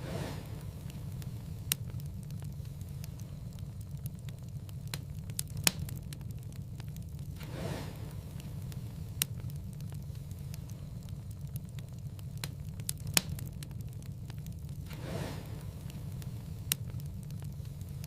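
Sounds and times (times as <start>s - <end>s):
fire crackling and popping: 0.0s - 18.0s
fire rumbling in fireplace: 0.0s - 18.0s
whoosh of flaring flame: 0.0s - 18.0s.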